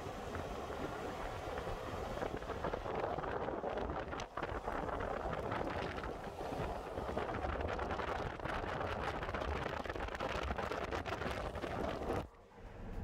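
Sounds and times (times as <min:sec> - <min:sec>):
wind rushing over microphone: 0:00.0 - 0:12.3
truck road noise and rumble: 0:00.0 - 0:13.0.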